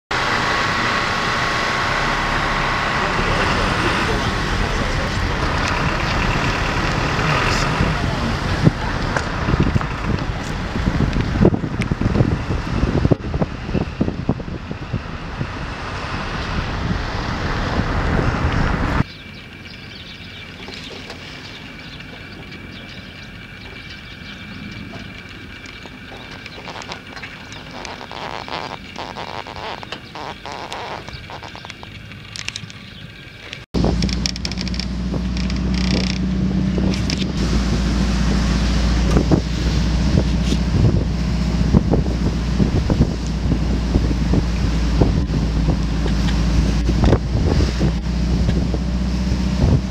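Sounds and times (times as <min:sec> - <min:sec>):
car road and wind noise: 0:00.1 - 0:49.9.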